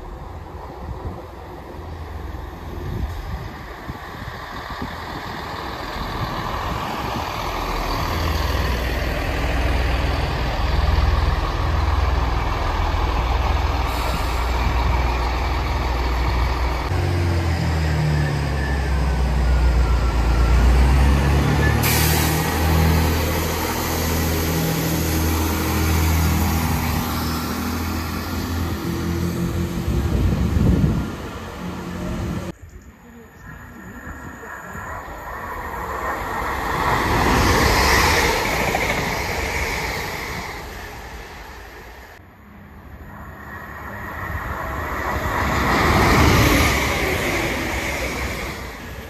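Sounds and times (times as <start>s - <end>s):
diesel train engines droning: 0.0s - 49.0s.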